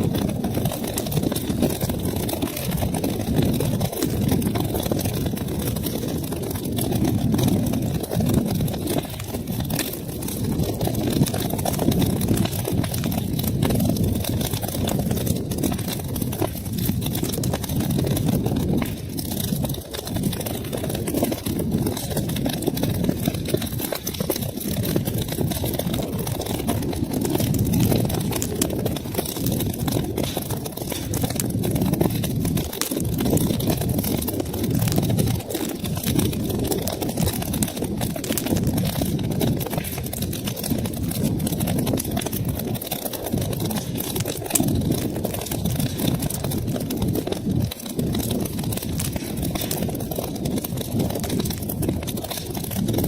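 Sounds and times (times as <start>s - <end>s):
low rumble of flames: 0.0s - 53.0s
wood fire crackling: 0.0s - 53.0s.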